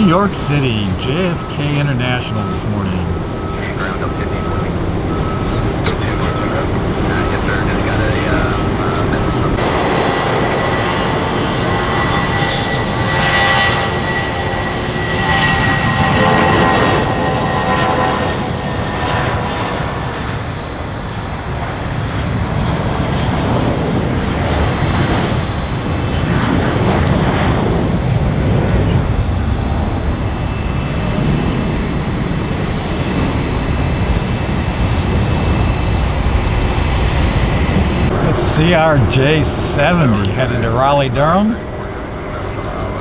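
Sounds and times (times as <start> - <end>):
jet engine roar with high whine: 0.0 - 43.0.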